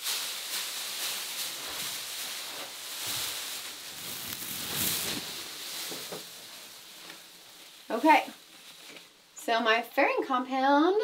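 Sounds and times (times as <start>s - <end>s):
plastic coverall rustling: 0.0s - 10.2s.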